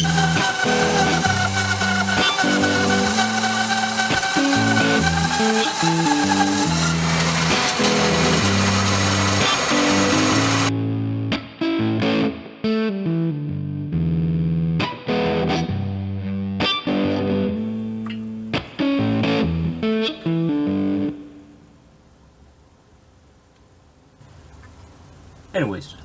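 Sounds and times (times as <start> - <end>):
distorted electric guitar blues-rock: 0.0 - 21.5.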